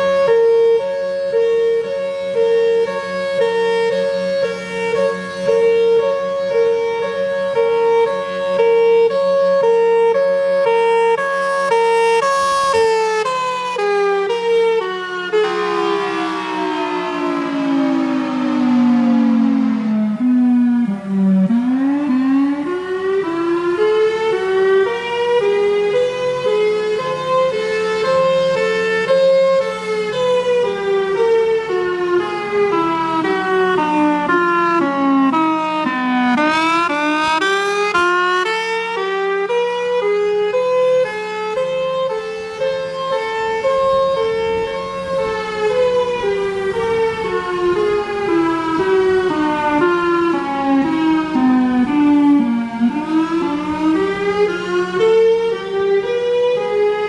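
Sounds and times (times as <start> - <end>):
two-tone siren: 0.0 - 57.0.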